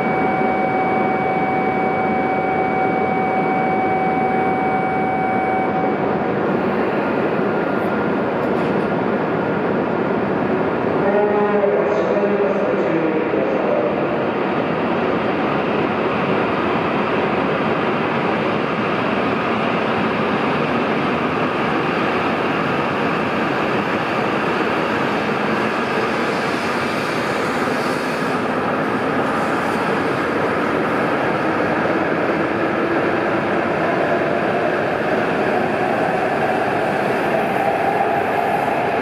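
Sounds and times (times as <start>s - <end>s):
train passing: 0.0s - 39.0s.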